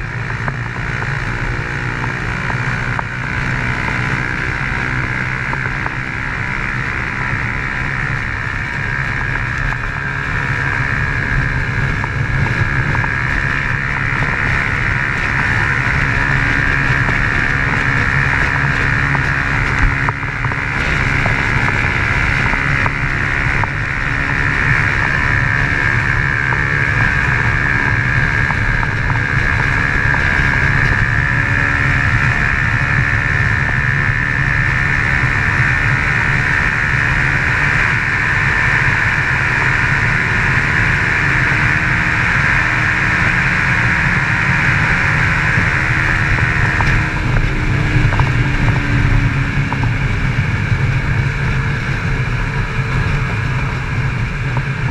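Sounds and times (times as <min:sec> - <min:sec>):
motorcycle engine running: 0:00.0 - 0:54.9
wind on microphone: 0:08.0 - 0:54.9.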